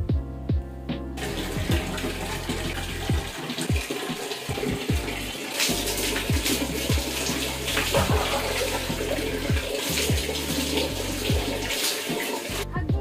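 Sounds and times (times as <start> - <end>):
background music with low beat: 0.0 - 13.0
water splashing over body: 1.2 - 12.6.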